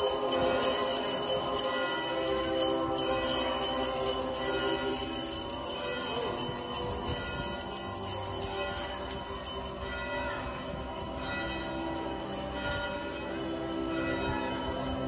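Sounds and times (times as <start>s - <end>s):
bells ringing: 0.0s - 15.0s
music: 0.0s - 15.0s.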